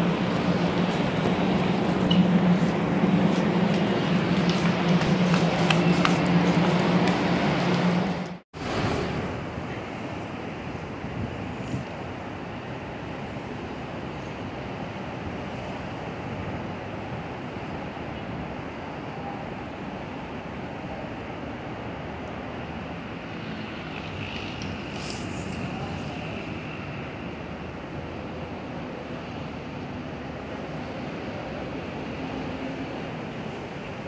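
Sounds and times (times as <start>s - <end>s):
outdoor rumble and hiss: 0.0s - 34.0s.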